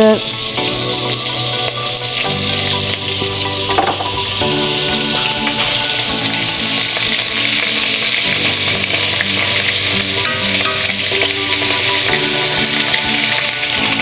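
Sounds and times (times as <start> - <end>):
butter sizzling in a pot: 0.0 - 14.0.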